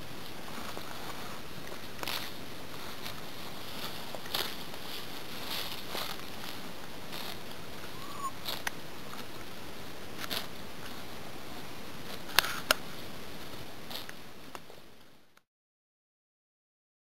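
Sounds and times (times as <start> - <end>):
steady hiss: 0.0 - 15.4
horse tearing and chewing grass: 0.1 - 14.7.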